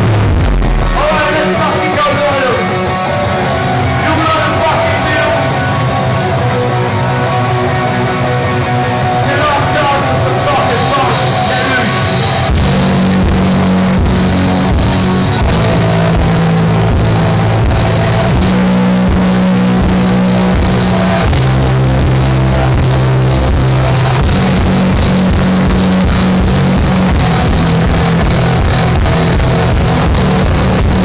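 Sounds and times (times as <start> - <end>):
bass holding long low notes: 0.0 - 31.0
distorted electric guitars: 0.0 - 31.0
driving drums: 0.0 - 31.0.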